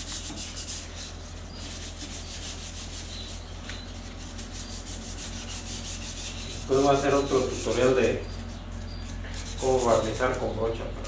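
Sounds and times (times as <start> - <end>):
sandpaper rubbing on wood: 0.0 - 8.2, 9.2 - 10.5.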